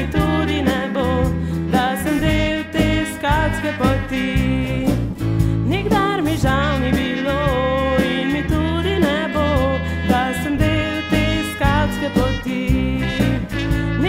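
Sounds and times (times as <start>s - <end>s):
pop folk song with singing: 0.0s - 14.0s.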